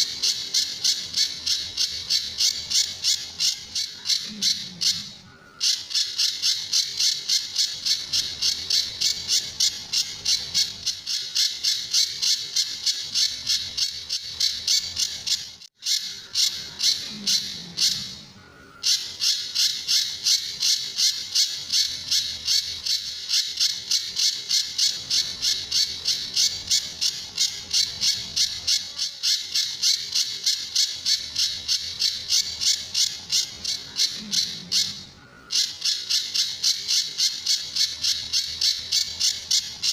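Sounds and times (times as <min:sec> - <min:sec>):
bird rapid-fire harsh call: 0:00.0 - 0:39.9.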